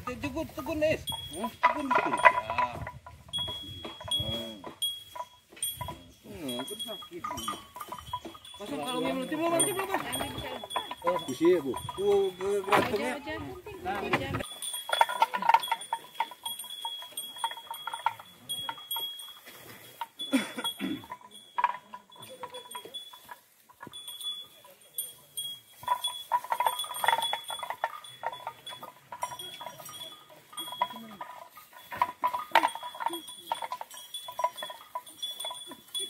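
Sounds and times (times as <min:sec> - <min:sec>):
cow bells clanking: 0:00.0 - 0:36.0.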